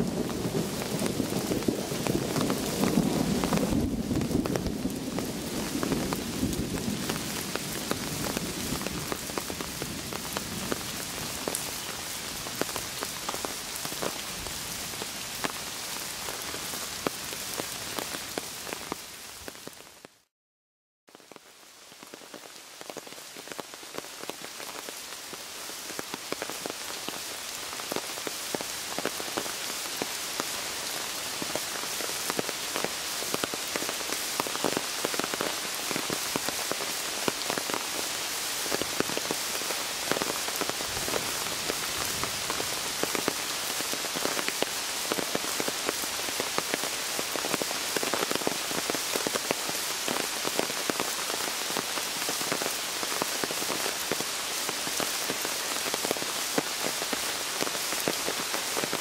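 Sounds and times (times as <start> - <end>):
heavy rain on sand and stones: 0.0 - 20.3, 21.1 - 59.0.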